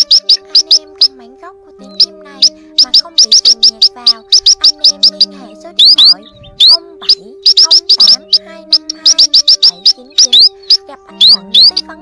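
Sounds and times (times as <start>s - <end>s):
rising bird calls: 0.0s - 1.2s, 1.9s - 12.0s
sharp high bird chirps: 0.0s - 1.2s, 1.8s - 12.0s
low background tones: 0.0s - 12.0s.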